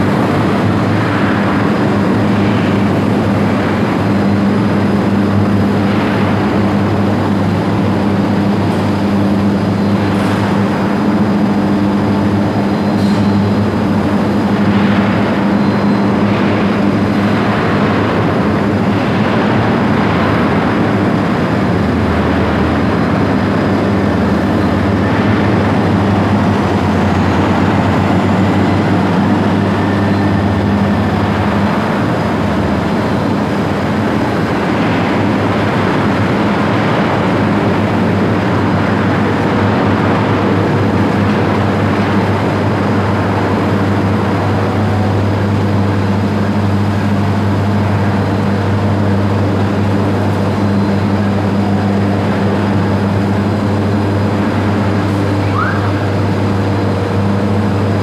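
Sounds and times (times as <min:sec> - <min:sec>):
continuous rushing noise: 0:00.0 - 0:58.0
industrial machinery low hum: 0:00.0 - 0:58.0.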